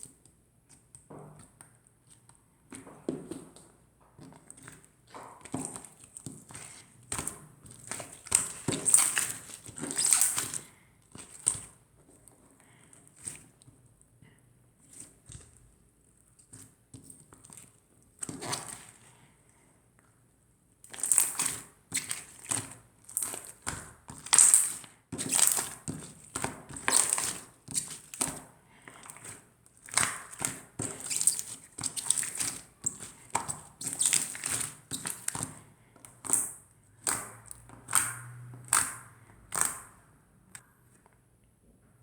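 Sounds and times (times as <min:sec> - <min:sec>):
slime squishing by hand: 0:00.0 - 0:20.1, 0:20.8 - 0:41.1.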